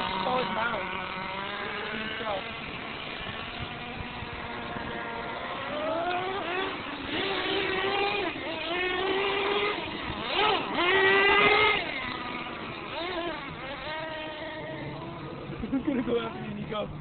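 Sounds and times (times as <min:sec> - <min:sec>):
toy truck motor whining: 0:00.0 - 0:15.5.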